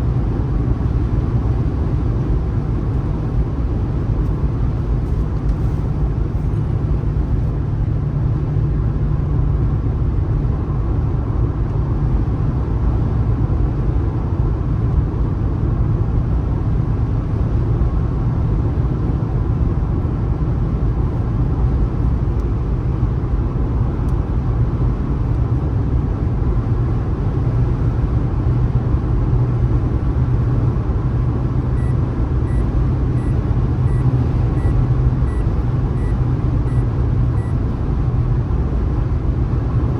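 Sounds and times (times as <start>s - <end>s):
low engine hum: 0.0s - 39.9s
road and tyre noise: 0.0s - 39.9s.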